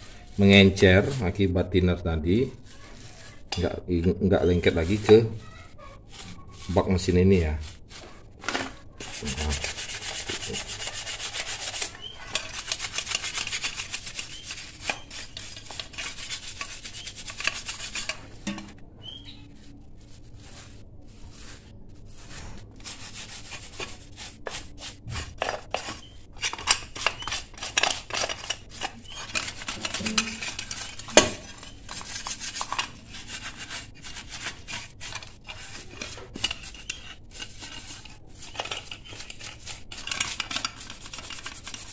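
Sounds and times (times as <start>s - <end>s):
brush scrubbing metal: 0.0s - 1.4s, 2.6s - 41.9s.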